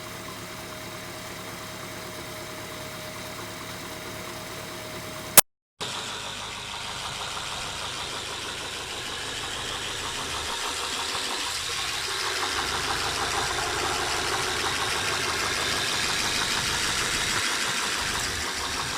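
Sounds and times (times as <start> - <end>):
engine idling: 0.0 - 18.9.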